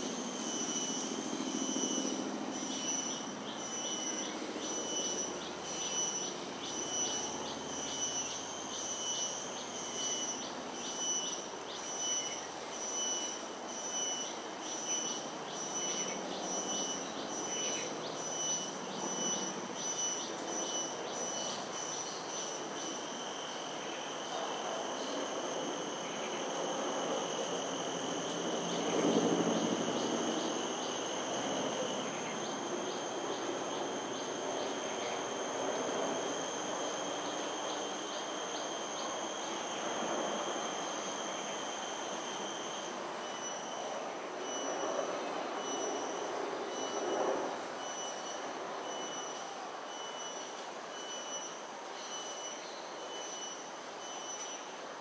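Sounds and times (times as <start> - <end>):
insect buzzing: 0.0 - 45.0, 45.6 - 47.1, 47.8 - 54.7
outdoor background noise: 0.0 - 55.0.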